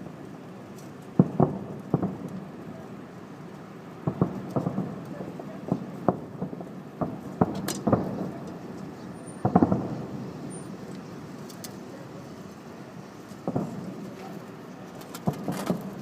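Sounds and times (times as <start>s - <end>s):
steady background noise: 0.0s - 16.0s
fireworks bangs: 0.8s - 3.0s, 3.9s - 16.0s.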